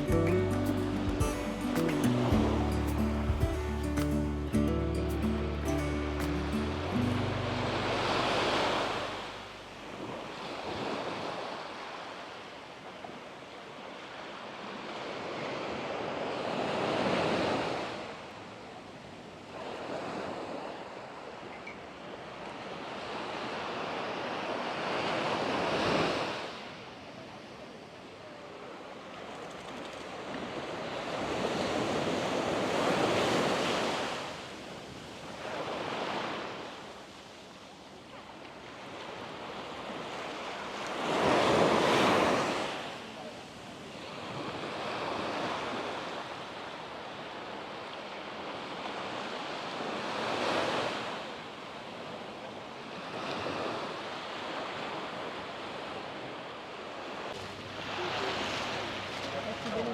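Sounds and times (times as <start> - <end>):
sea waves breaking on shore: 0.0 - 59.9.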